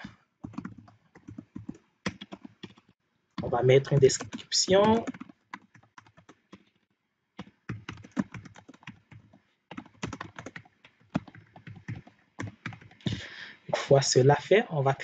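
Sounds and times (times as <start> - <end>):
computer keyboard typing: 0.4 - 13.2.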